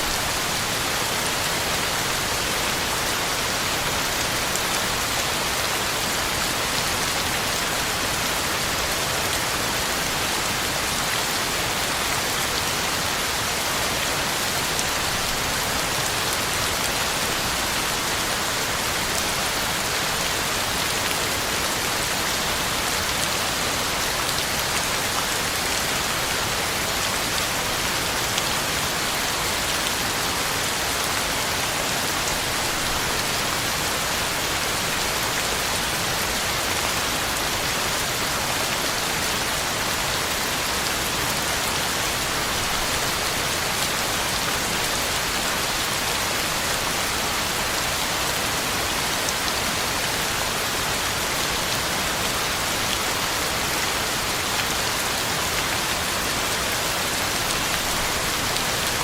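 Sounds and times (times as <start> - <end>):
heavy rain pattering on leaves: 0.0 - 59.0.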